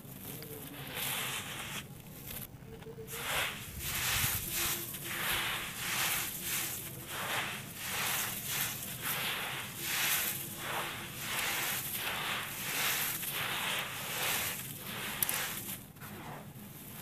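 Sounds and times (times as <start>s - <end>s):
hands scooping dry soil: 0.0s - 17.0s.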